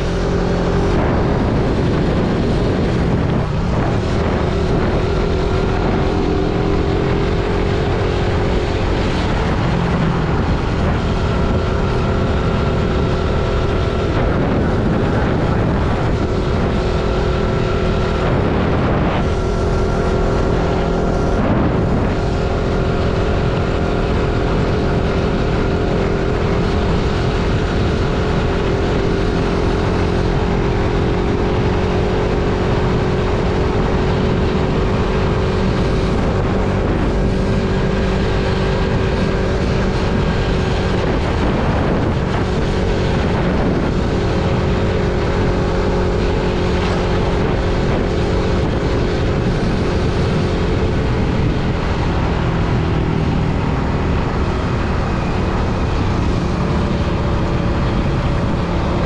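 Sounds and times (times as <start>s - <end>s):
motorcycle engine cruising: 0.0s - 59.0s
wind and road noise: 0.0s - 59.0s.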